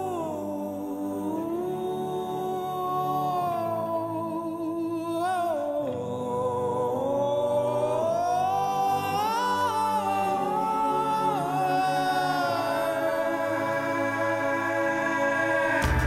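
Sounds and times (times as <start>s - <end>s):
low musical backing: 0.0s - 16.0s
wordless voice singing: 0.0s - 16.0s.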